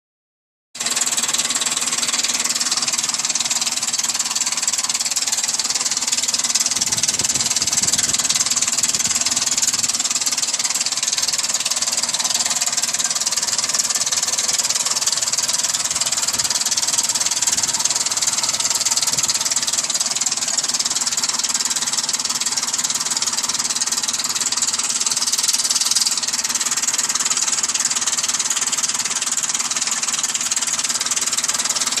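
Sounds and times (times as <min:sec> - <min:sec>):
car engine running with bad noise: 0:00.8 - 0:32.0.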